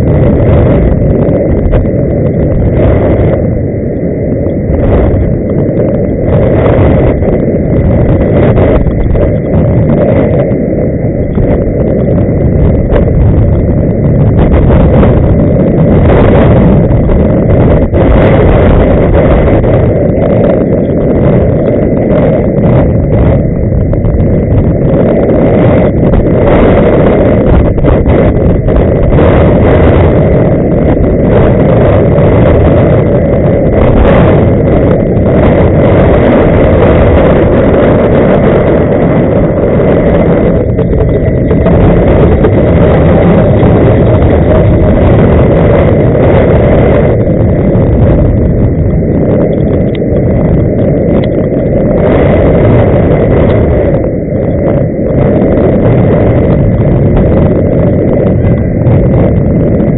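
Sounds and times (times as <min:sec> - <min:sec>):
faint high whine: 0:00.0 - 0:59.9
wind buffeting the microphone: 0:00.0 - 0:59.9.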